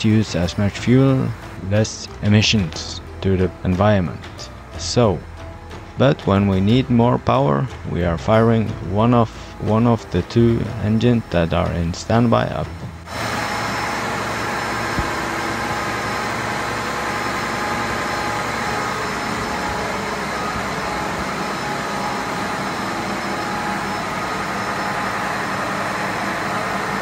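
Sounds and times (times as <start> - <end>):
engine room machinery din: 0.0 - 27.0.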